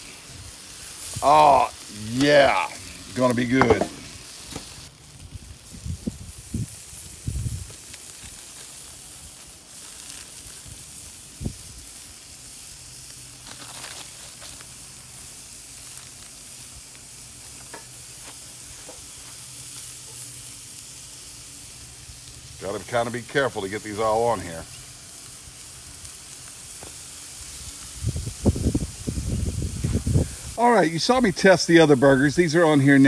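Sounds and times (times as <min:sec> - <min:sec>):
burger patties sizzling: 0:00.0 - 0:33.0.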